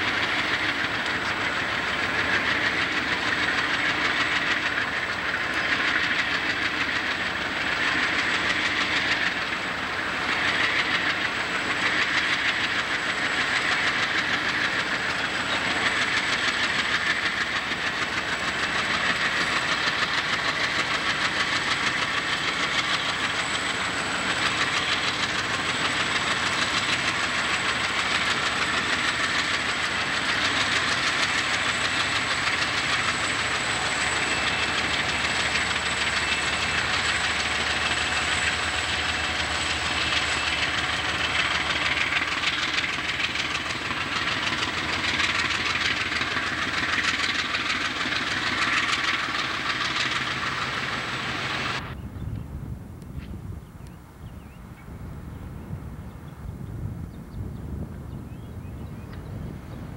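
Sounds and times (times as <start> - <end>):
diesel engine drone: 0.0 - 59.9
train wheels rumbling on rails: 0.0 - 59.9.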